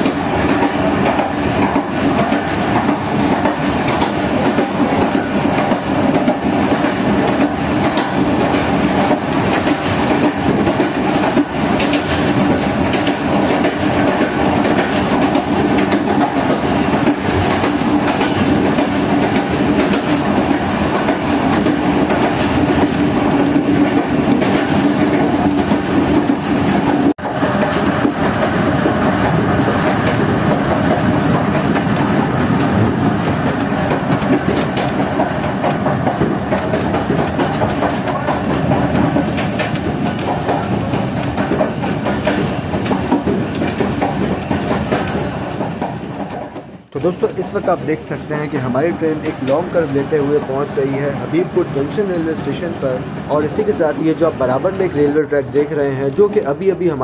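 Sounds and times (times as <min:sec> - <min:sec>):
clickety-clack of rail joints: 0:00.0 - 0:57.0
train wheels rumbling on rails: 0:00.0 - 0:57.0.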